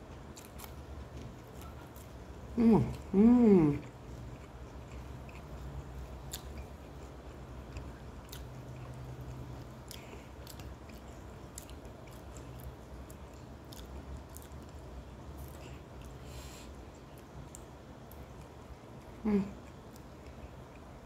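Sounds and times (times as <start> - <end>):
person chewing food: 0.0 - 21.0
steady low hum: 0.0 - 21.0.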